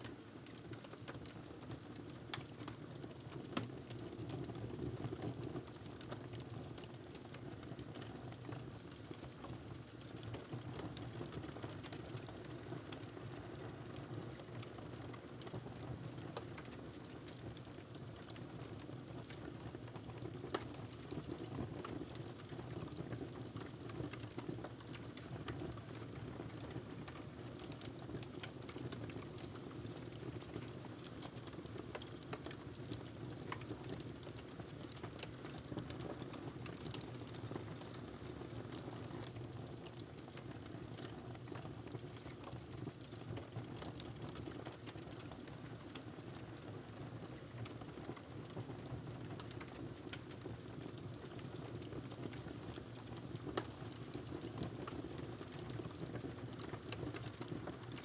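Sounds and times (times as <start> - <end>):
wood fire crackling: 10.1 - 15.5, 16.2 - 39.1, 39.8 - 58.0.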